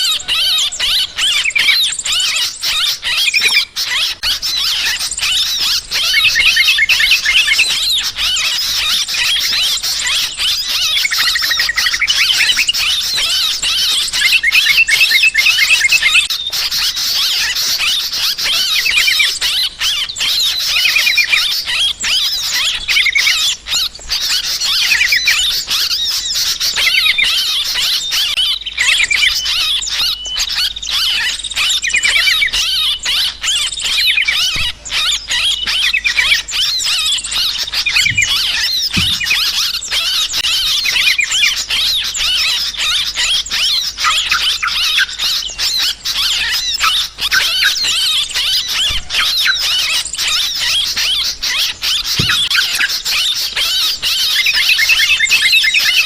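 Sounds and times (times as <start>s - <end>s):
bulbuls chattering: 0.0s - 56.0s.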